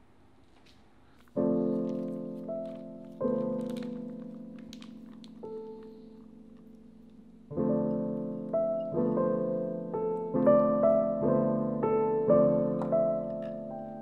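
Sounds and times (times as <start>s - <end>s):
piano music: 1.2s - 14.0s.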